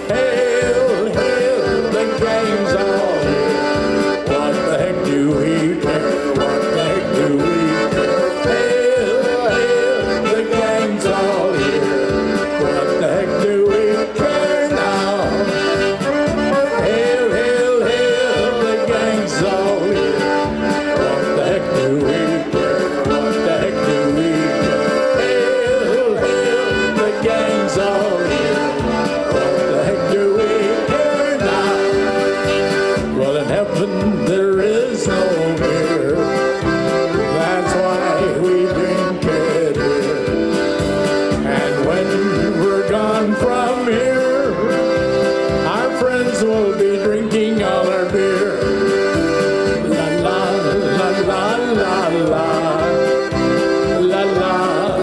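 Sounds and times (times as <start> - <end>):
accordion polka: 0.0 - 55.0
keyboard accompaniment: 0.0 - 55.0.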